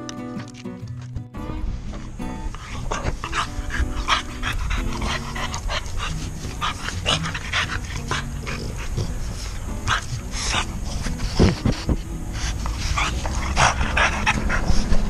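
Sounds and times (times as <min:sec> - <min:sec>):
background music: 0:00.0 - 0:15.0
dogs panting: 0:01.9 - 0:15.0.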